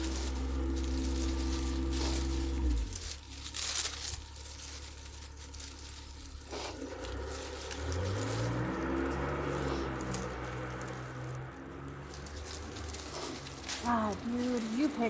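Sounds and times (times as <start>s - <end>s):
engine running: 0.0s - 15.0s
rustling: 0.0s - 15.0s.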